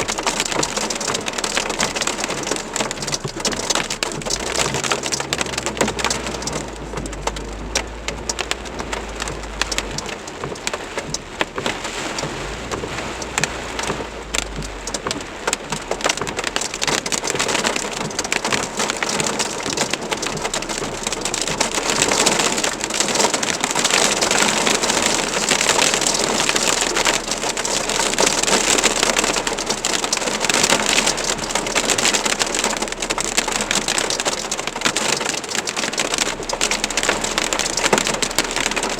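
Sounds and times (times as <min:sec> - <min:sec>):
low rumble: 0:00.0 - 0:34.9
heavy rain and hail: 0:00.0 - 0:38.9.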